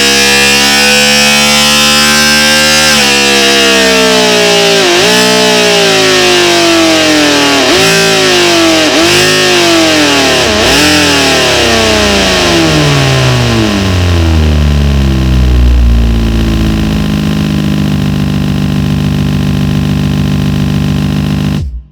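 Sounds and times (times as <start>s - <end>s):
synthesized engine winding down: 0.0s - 21.9s.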